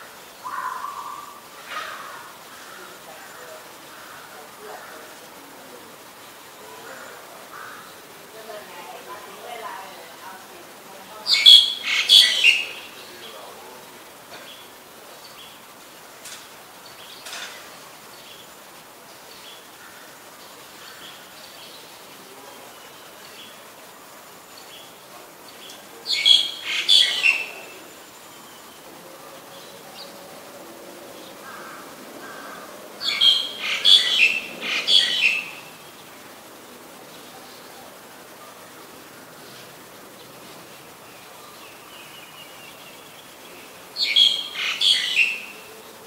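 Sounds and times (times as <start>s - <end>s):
starling calling: 0.0s - 46.0s.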